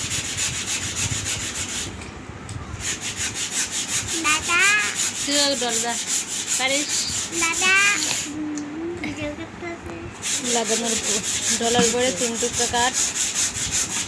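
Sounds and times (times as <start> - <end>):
sandpaper rubbing on wood: 0.0 - 2.0, 2.8 - 8.4, 10.2 - 14.0.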